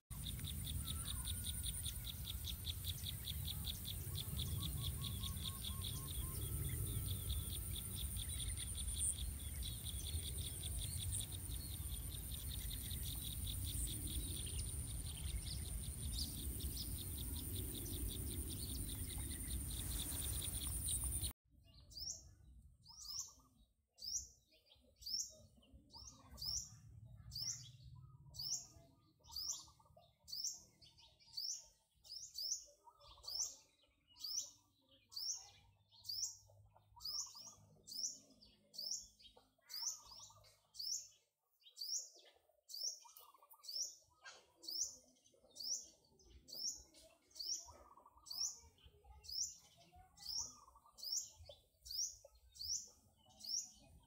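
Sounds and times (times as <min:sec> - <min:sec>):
bird chirping: 0:00.1 - 0:54.0.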